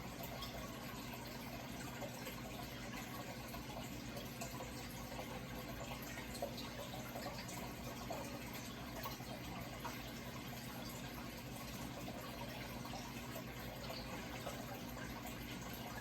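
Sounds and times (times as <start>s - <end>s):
low steady hum: 0.0s - 16.0s
water trickling and bubbling: 0.0s - 16.0s.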